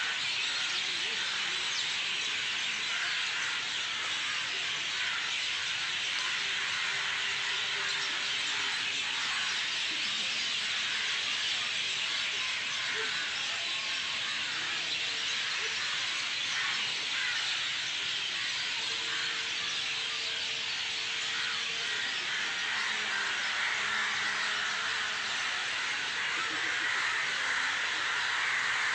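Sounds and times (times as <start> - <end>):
chorus of birds chirping: 0.0 - 28.9.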